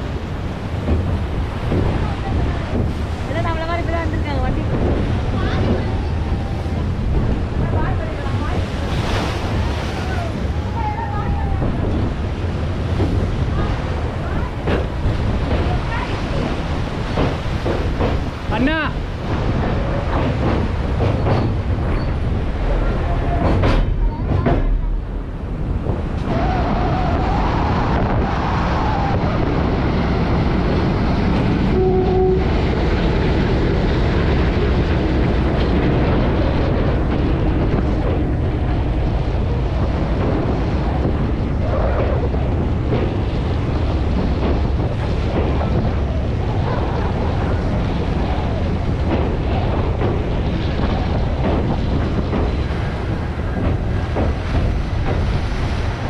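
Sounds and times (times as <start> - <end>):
train rumbling across bridge: 0.0 - 56.0.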